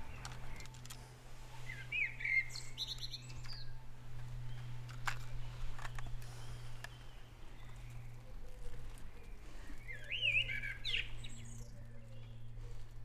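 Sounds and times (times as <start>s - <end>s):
steady low hum: 0.0s - 13.0s
bird chirping: 1.5s - 13.0s.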